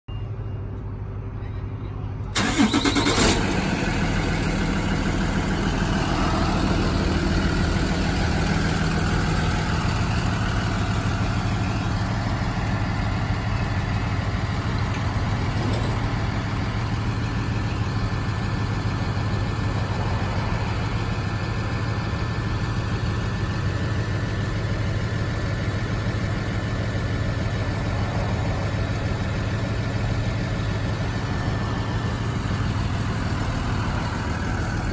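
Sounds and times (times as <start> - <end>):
bus engine cranking and idling: 0.1 - 34.9.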